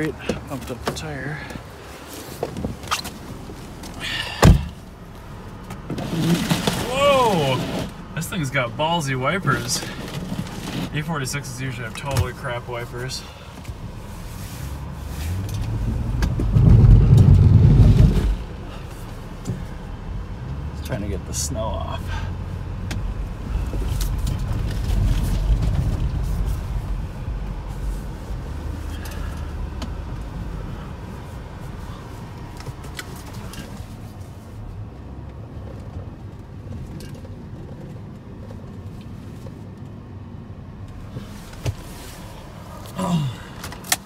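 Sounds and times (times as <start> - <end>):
car engine rumble from cabin: 0.0 - 44.0.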